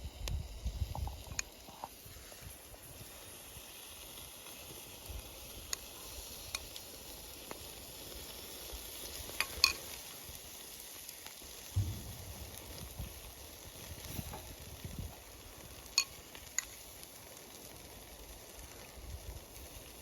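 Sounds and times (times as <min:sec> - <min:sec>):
campfire crackling: 0:00.0 - 0:20.0
vegetables sizzling over fire: 0:00.0 - 0:20.0.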